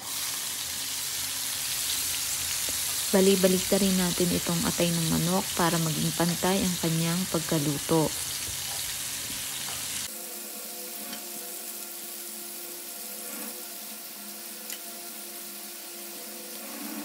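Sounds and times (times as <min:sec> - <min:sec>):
livers sizzling in hot oil: 0:00.0 - 0:17.0.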